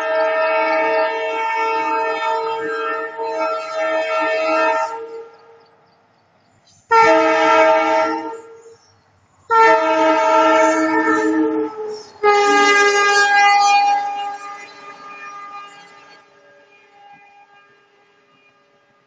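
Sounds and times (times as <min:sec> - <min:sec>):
locomotive horn blasts: 0:00.0 - 0:05.7, 0:06.9 - 0:08.8, 0:09.5 - 0:18.6.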